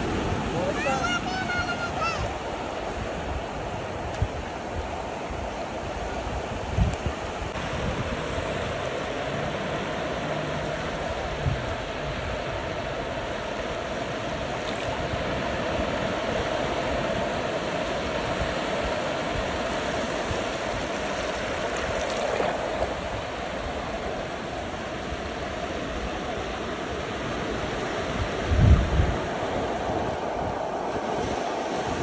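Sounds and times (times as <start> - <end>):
small waves breaking: 0.0 - 32.0.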